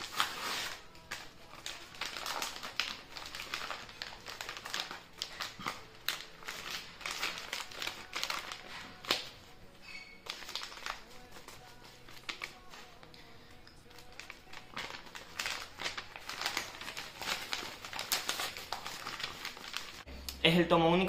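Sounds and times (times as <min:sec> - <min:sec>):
paper envelope tearing and crinkling: 0:00.0 - 0:09.5, 0:10.2 - 0:13.0, 0:13.8 - 0:20.1.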